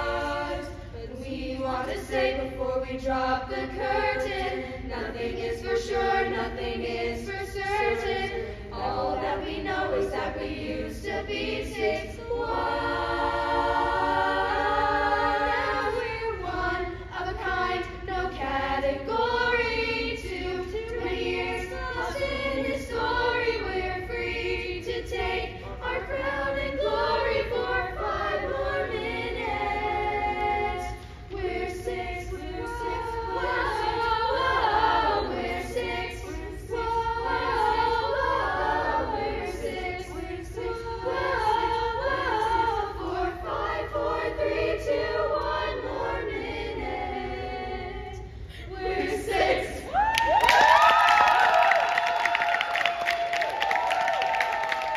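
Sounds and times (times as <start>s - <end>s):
choir singing a cappella: 0.0s - 54.9s.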